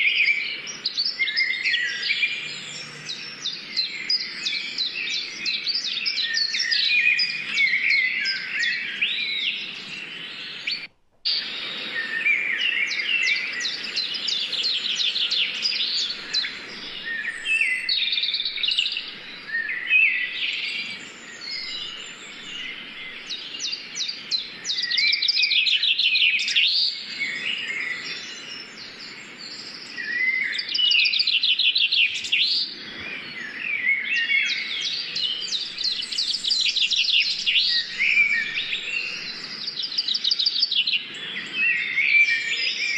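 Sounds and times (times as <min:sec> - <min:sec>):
birds chirping and trilling: 0:00.0 - 0:42.9.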